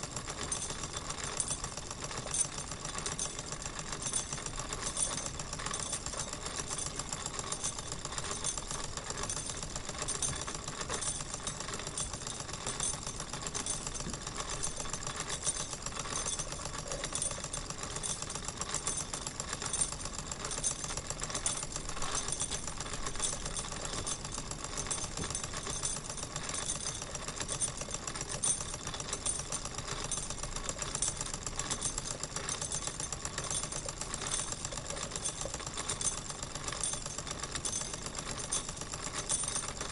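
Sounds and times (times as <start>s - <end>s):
model steam engine clatter: 0.0s - 39.9s.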